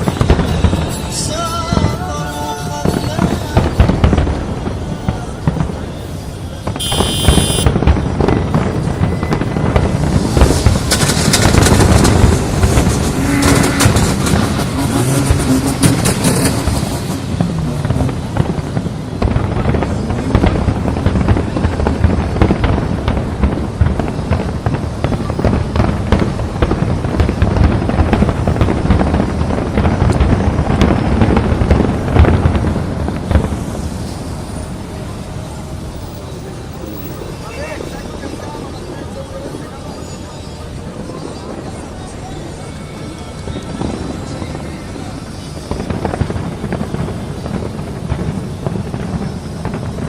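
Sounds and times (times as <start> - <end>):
fireworks booms and crackling: 0.0 - 50.0.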